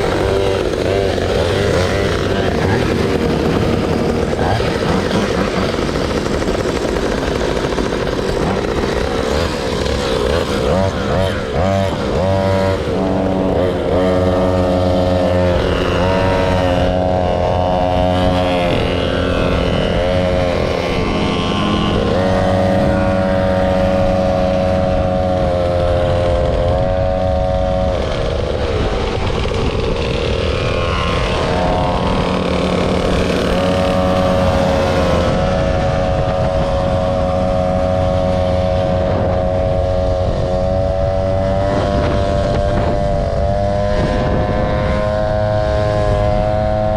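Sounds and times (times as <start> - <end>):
motor scooter engine running: 0.0 - 46.9.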